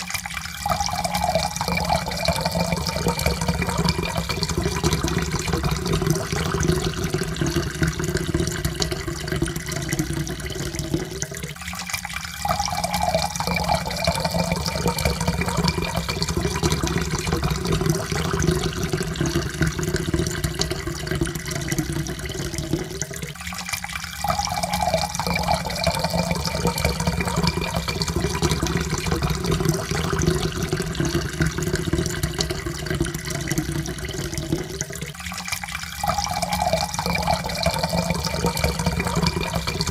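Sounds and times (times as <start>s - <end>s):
water pouring into a cup: 0.0s - 39.9s.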